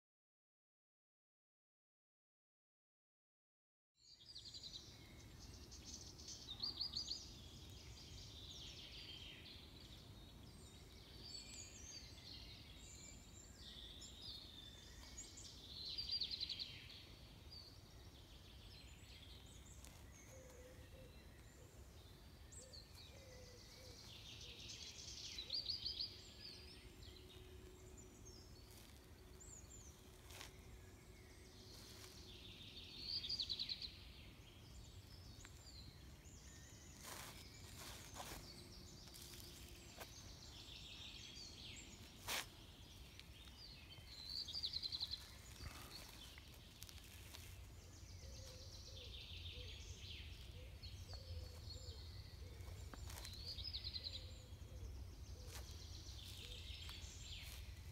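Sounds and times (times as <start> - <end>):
bird chirps: 4.2 - 57.9
bird trilling song: 4.2 - 57.9.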